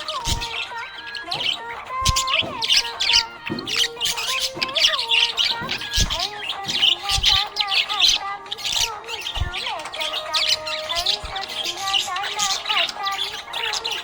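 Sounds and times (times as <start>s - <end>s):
budgerigars chirping: 0.0s - 14.0s.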